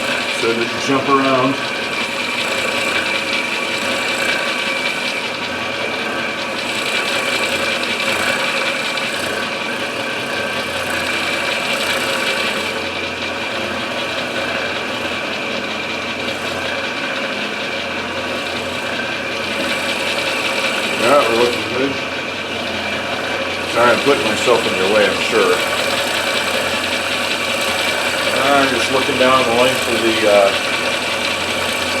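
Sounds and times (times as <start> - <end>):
milling machine whirring: 0.0 - 32.0.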